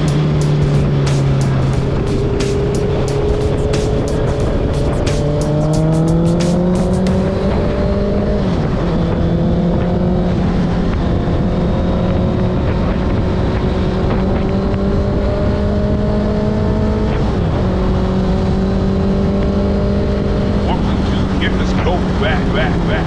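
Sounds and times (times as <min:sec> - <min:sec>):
motorcycle engine accelerating: 0:00.0 - 0:23.0
wind and road noise: 0:00.0 - 0:23.0.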